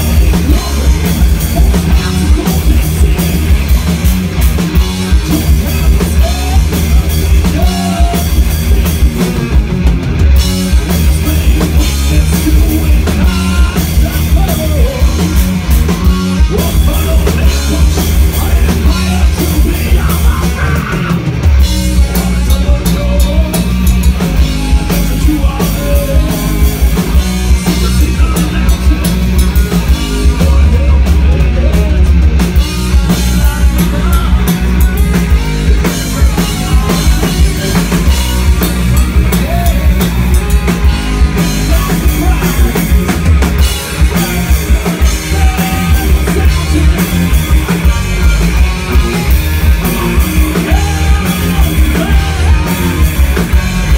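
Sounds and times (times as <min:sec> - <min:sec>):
man singing: 0:00.0 - 0:04.1, 0:05.0 - 0:09.6, 0:10.8 - 0:53.9
distorted electric guitars: 0:00.0 - 0:53.9
drum kit: 0:00.0 - 0:53.9
electric bass: 0:00.0 - 0:53.9.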